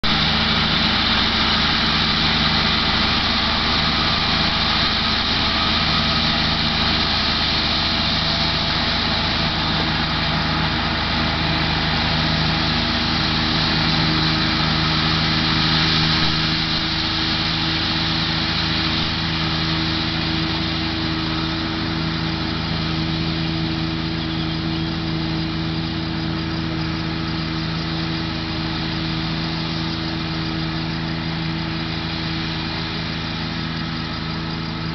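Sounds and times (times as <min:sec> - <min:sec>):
tractor diesel engine running: 0:00.0 - 0:34.9
steady high hiss: 0:00.1 - 0:34.9.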